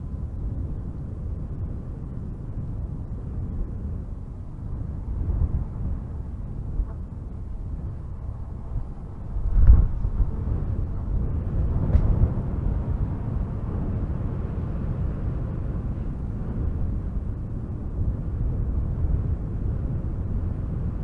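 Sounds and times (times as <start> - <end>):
strong wind gusting through trees: 0.0 - 21.0.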